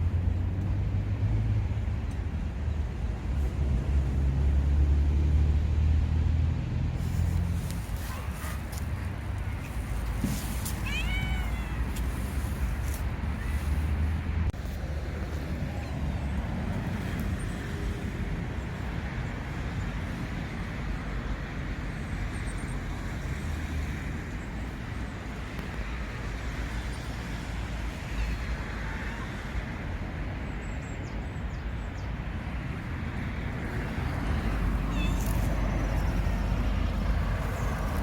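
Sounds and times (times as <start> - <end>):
distant traffic rumble: 0.0 - 38.0.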